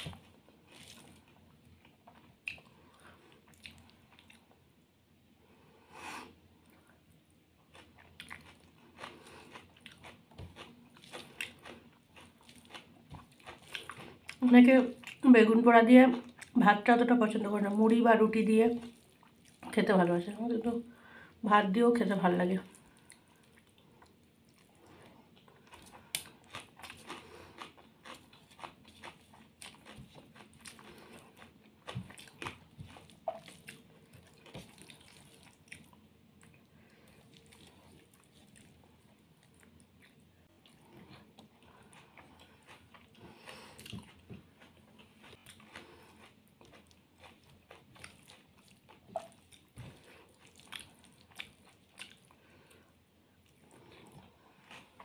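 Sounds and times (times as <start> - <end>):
person chewing: 0.0 - 4.8, 6.6 - 15.2, 18.8 - 19.7, 22.7 - 55.0.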